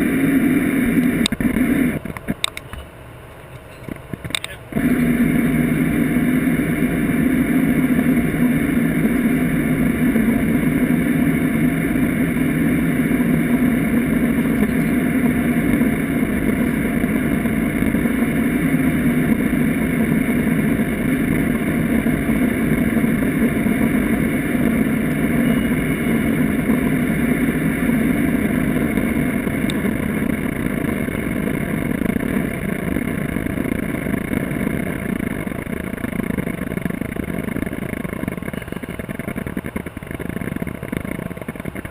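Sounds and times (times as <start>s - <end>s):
aircraft engine and propeller drone: 0.0s - 41.9s.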